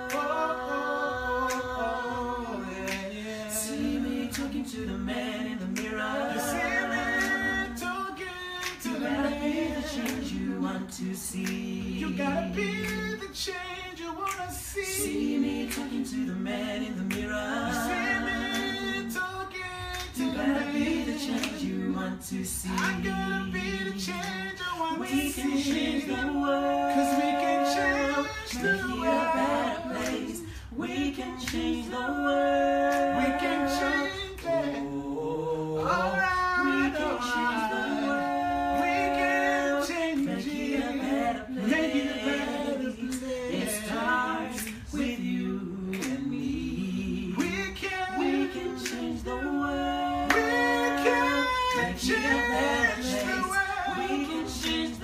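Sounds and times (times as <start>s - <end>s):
a cappella group singing: 0.0s - 55.0s.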